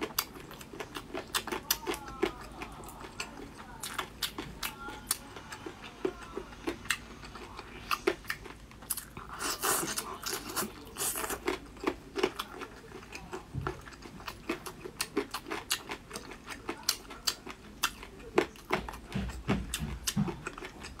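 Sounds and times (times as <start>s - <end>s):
chewing and crunching: 0.0s - 21.0s.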